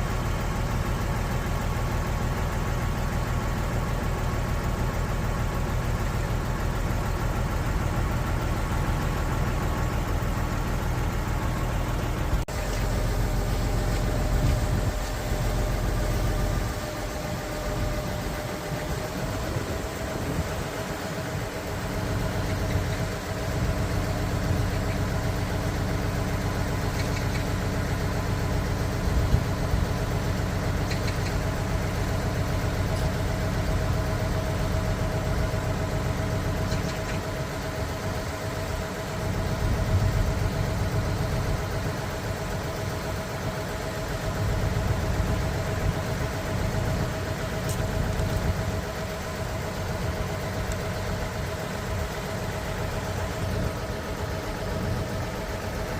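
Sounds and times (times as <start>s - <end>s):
diesel engine rumble with whine: 0.0s - 55.9s.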